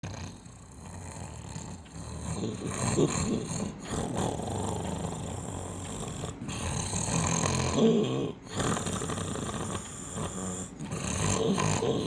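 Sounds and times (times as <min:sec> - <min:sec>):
man snoring: 0:00.0 - 0:12.0.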